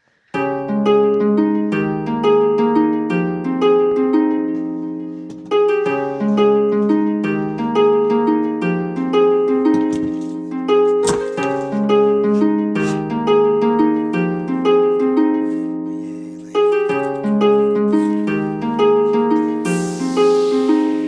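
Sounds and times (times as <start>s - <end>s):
plucked harp-like melody: 0.4s - 21.0s.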